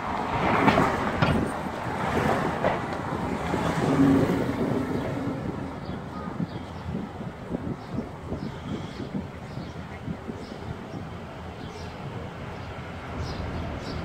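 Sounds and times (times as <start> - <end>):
car driving on city street: 0.0 - 14.0
wind buffeting microphone: 0.0 - 14.0.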